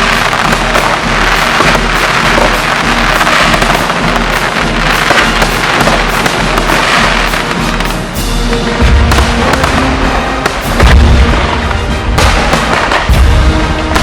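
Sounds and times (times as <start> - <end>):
fireworks crackling: 0.0 - 14.0
music playing: 0.0 - 14.0.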